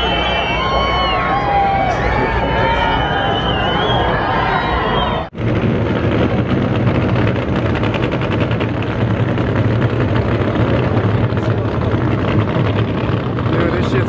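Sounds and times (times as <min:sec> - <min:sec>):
race car engine roaring: 0:00.0 - 0:14.0.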